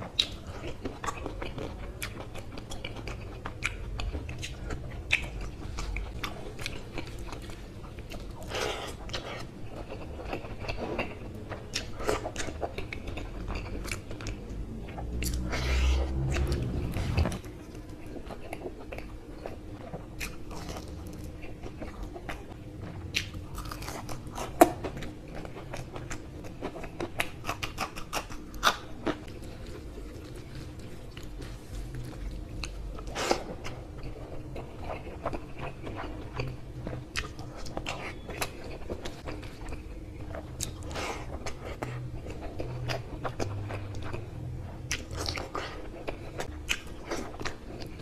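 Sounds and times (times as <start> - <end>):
faint steady hum: 0.0 - 48.0
man chewing and biting: 0.1 - 48.0.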